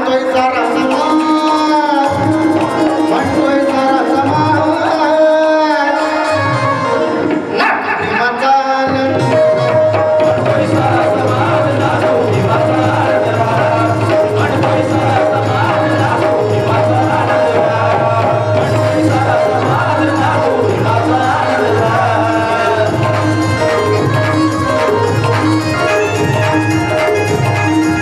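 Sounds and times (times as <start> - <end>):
held melody line: 0.0 - 7.6, 8.8 - 28.0
folk band playing: 0.0 - 28.0
tabla playing fast rhythm: 0.0 - 28.0.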